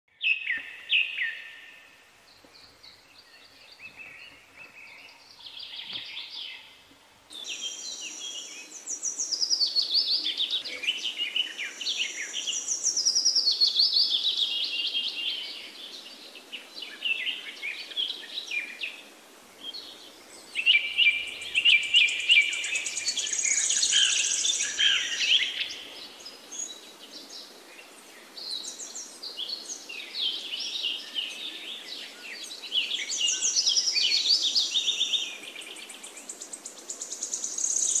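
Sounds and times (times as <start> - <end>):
songbirds singing: 0.1 - 38.0.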